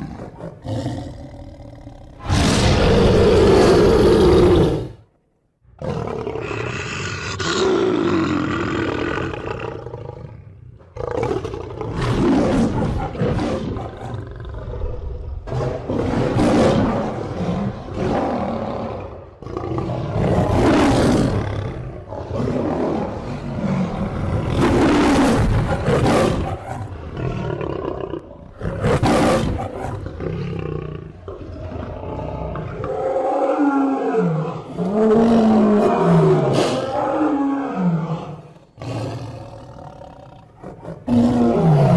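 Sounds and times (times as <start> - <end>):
lion roaring: 0.0 - 5.1, 5.8 - 41.9.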